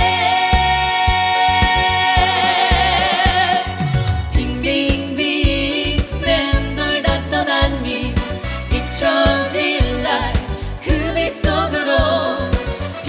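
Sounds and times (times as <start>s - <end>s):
drum beat: 0.0s - 12.7s
falling bass line: 0.0s - 13.0s.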